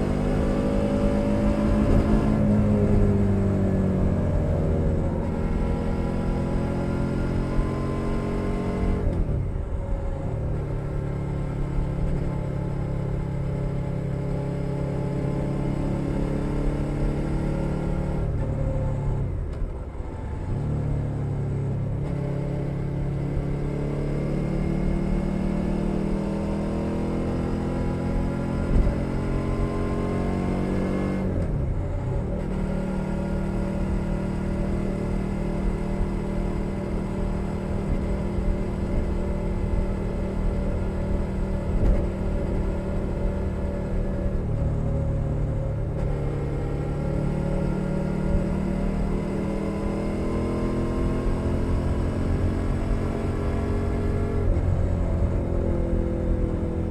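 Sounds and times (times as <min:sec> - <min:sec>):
motorcycle engine on the road: 0:00.0 - 0:56.9.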